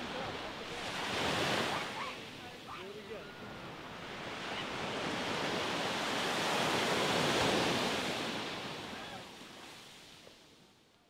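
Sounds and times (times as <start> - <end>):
surf washing up sandy beach: 0.0 - 10.7.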